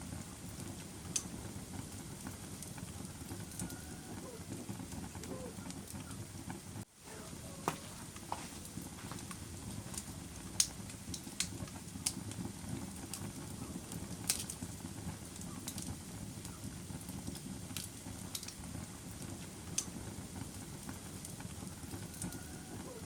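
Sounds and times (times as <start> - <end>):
fire rumbling: 0.0 - 23.0
wood crackling and popping: 0.0 - 23.0.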